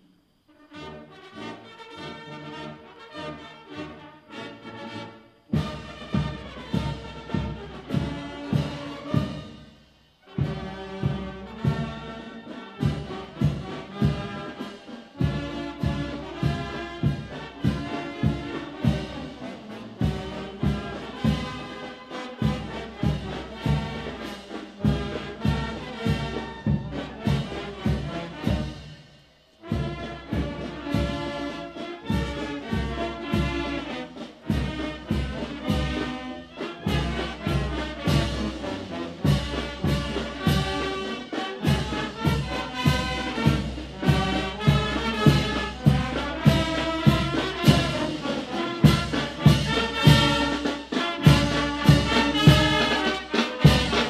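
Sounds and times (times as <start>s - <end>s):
brass and drum band march: 0.0s - 54.0s
steady drum beat: 5.5s - 54.0s.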